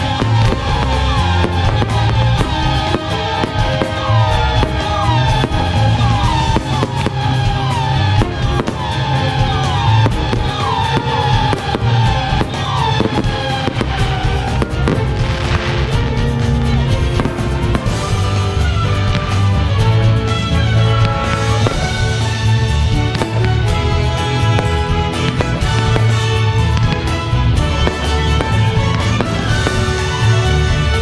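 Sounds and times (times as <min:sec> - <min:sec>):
fireworks bursting and crackling: 0:00.0 - 0:31.0
music with steady beat: 0:00.0 - 0:31.0.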